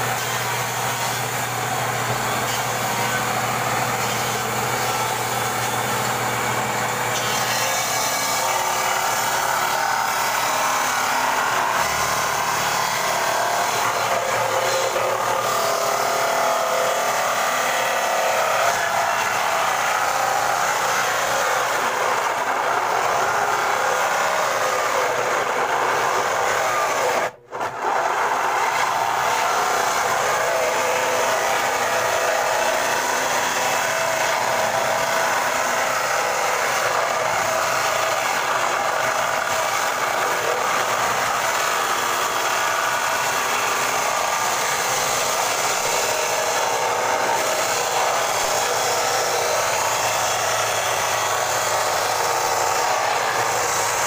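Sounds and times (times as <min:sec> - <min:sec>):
power saw cutting wood: 0:00.0 - 0:54.0.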